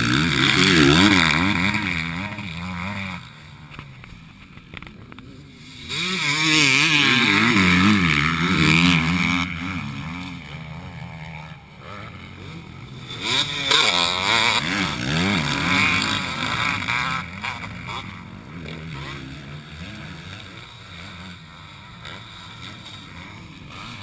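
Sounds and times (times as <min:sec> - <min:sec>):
motocross bikes racing past: 0:00.0 - 0:24.0.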